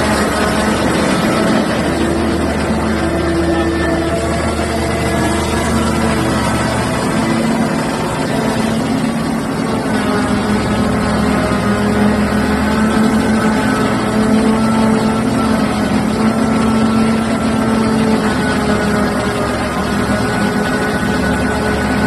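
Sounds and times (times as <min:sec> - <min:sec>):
diesel engines droning: 0:00.0 - 0:22.0.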